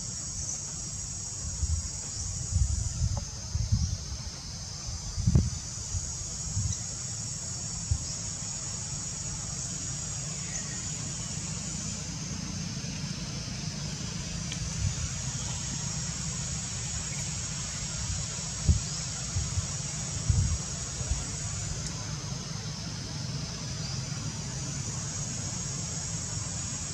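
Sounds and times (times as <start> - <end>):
high-pitched insect drone: 0.0 - 26.9.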